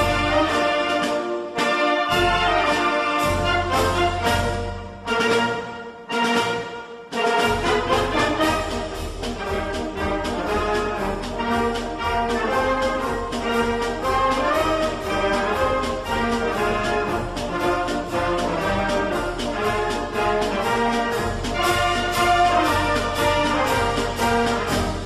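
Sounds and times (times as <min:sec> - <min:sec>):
brass music sustained notes: 0:00.0 - 0:25.0.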